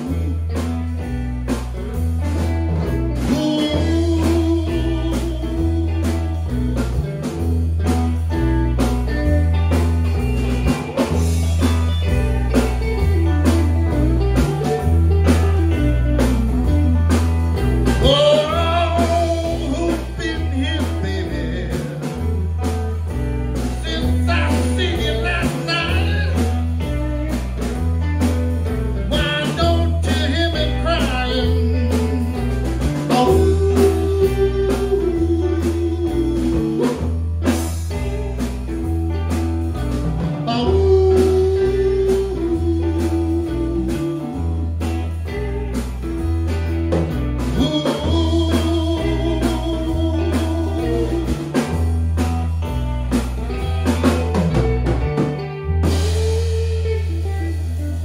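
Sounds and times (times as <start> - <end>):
bending lead guitar line: 0.0 - 58.0
blues band playing live: 0.0 - 58.0
electric bass line: 0.0 - 58.0.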